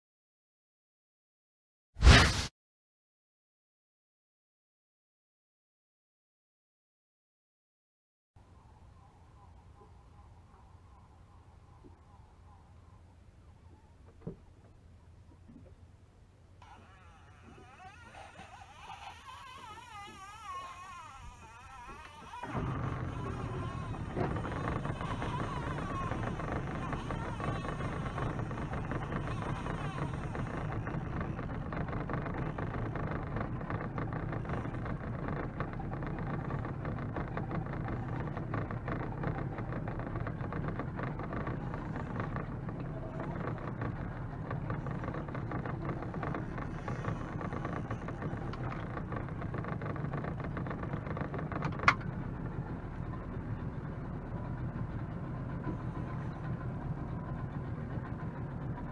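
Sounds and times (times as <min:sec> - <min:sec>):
outboard motor idling: 0:08.9 - 0:58.9.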